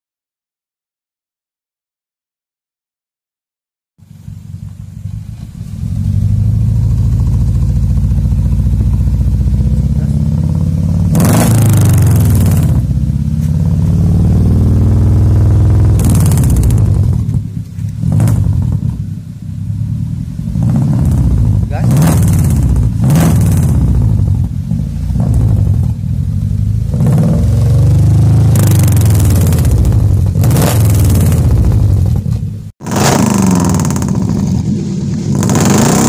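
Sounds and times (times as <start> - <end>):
pickup engine exhaust rumble: 4.0 - 36.0
engine revving: 4.3 - 36.0.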